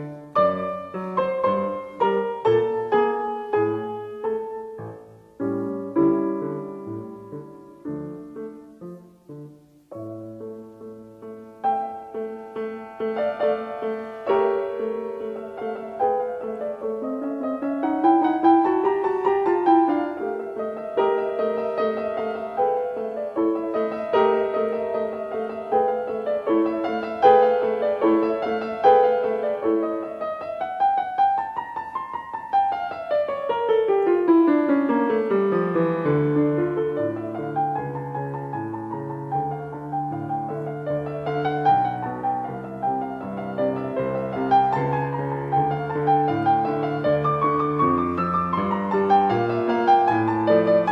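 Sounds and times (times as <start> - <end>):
piano music: 0.0 - 50.9.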